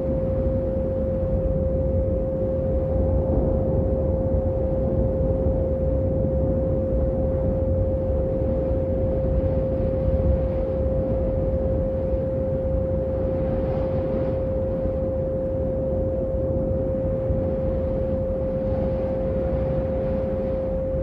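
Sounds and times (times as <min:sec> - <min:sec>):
deep rumbling drone: 0:00.0 - 0:21.0.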